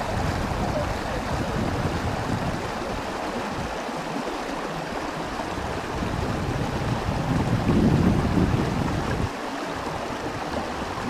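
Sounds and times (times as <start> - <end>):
stream flowing over stones: 0.0 - 11.0.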